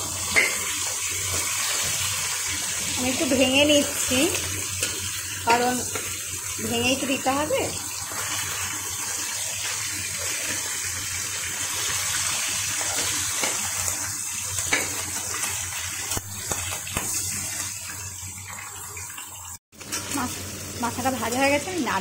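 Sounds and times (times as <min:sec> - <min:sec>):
fish frying in hot oil: 0:00.0 - 0:22.0.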